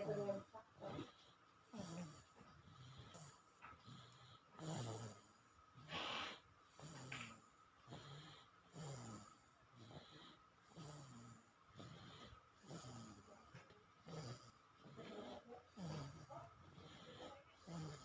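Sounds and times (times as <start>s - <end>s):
baby snoring faintly: 0.0s - 18.0s.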